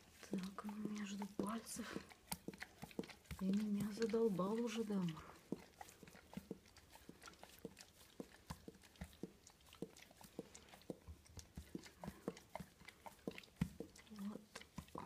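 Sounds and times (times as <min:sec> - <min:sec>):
dog licking wet clicks: 0:00.0 - 0:15.0.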